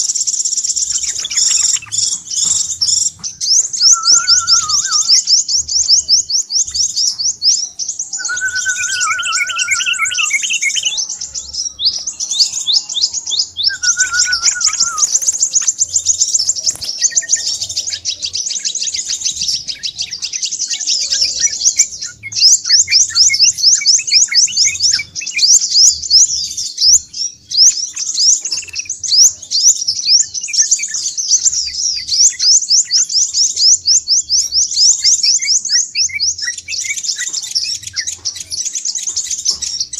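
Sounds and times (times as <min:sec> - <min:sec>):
lower whistled bird phrases: 0:00.0 - 0:39.9
sunbird chattering trill: 0:00.0 - 0:39.9.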